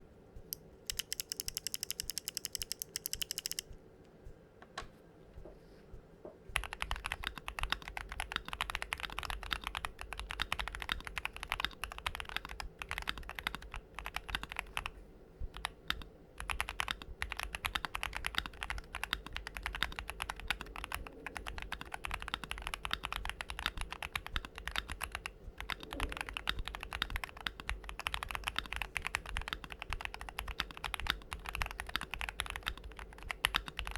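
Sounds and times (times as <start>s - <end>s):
mechanical keyboard typing: 0.5s - 3.8s, 6.6s - 33.9s.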